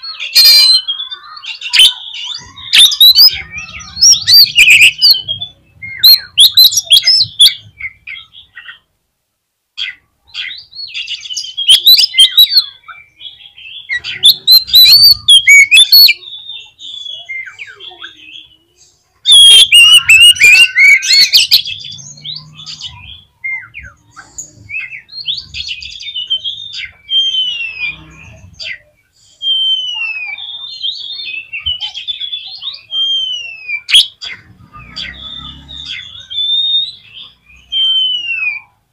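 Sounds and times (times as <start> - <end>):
bird singing whistles and chatter: 0.0 - 8.9, 9.8 - 38.9.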